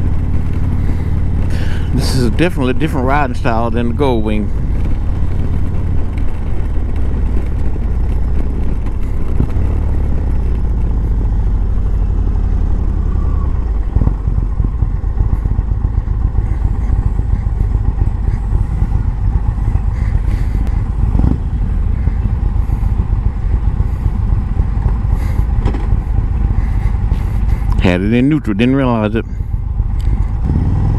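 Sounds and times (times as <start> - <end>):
motorcycle engine rumble: 0.0 - 30.9.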